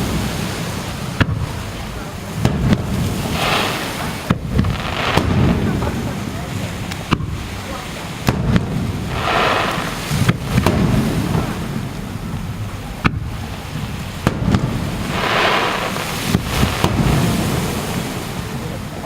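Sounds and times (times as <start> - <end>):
fireworks bangs: 0.0 - 19.0
fireworks fizzing crackle: 0.0 - 19.0.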